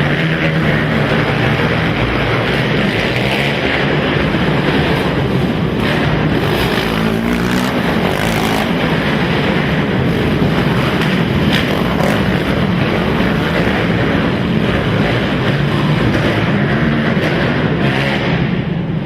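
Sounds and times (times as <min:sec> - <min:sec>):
quad engines revving: 0:00.0 - 0:19.0.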